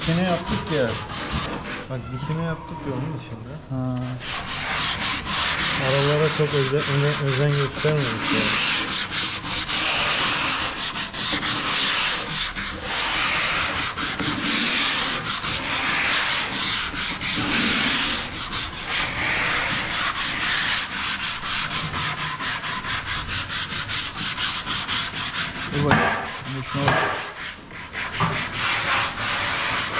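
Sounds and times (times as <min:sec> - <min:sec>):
sandpaper rubbing on wood: 0:00.0 - 0:02.1, 0:03.3 - 0:29.9.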